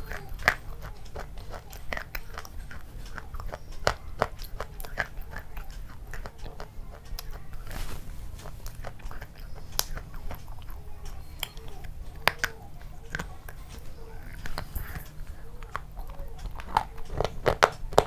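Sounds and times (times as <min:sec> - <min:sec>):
chocolate snapping: 0:00.0 - 0:18.0
mouth clicks: 0:00.0 - 0:18.0
person chewing chocolate: 0:00.0 - 0:18.0
steady low hum: 0:00.0 - 0:18.0.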